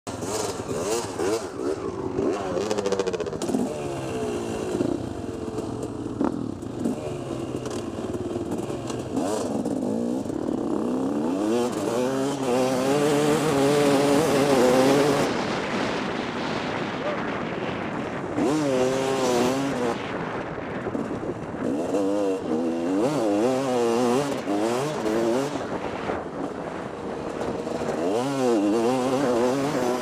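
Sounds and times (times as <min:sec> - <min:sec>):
motorbike revving and pulling away: 0:00.1 - 0:30.0.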